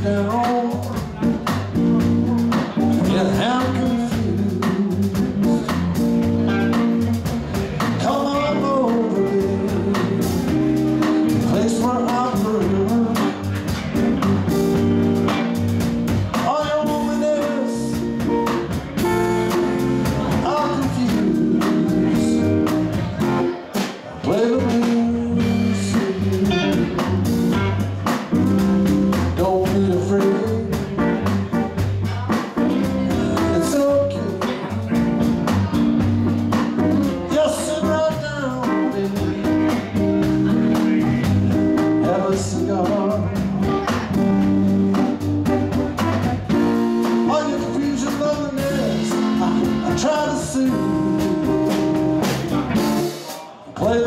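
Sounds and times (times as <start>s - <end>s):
bass line: 0.0s - 54.0s
drum kit: 0.0s - 54.0s
electric guitars: 0.0s - 54.0s.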